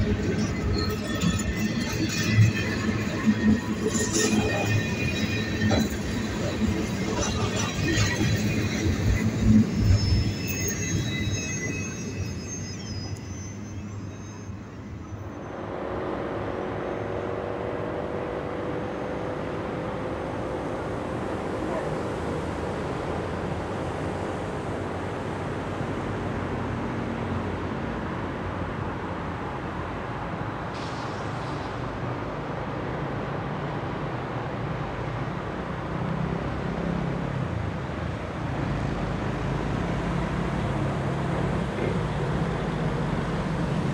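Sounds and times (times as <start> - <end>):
freight train rumbling on rails: 0.0 - 16.6, 20.4 - 43.9.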